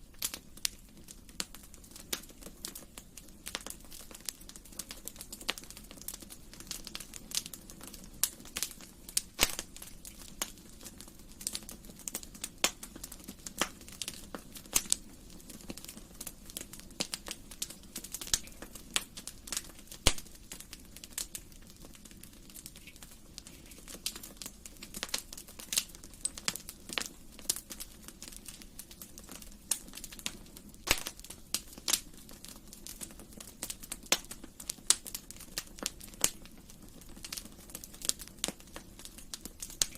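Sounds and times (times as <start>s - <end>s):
soft hiss of burning: 0.0s - 39.9s
wood fire crackling and popping: 0.0s - 39.9s.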